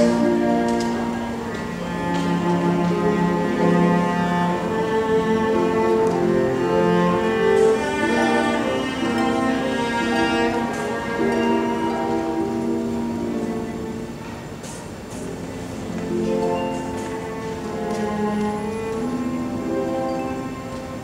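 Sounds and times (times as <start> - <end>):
bowed string music: 0.0 - 21.0.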